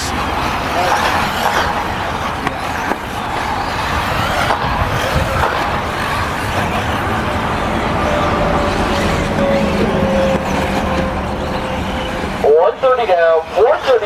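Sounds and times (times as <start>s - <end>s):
tyres on track: 0.0s - 14.0s.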